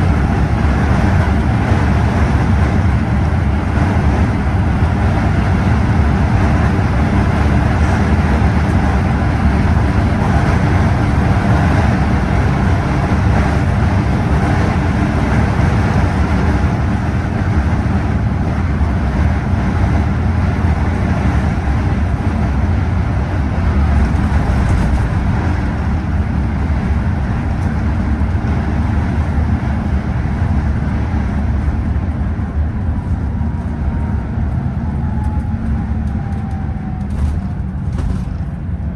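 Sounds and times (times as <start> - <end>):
coach engine and road noise: 0.0 - 38.9.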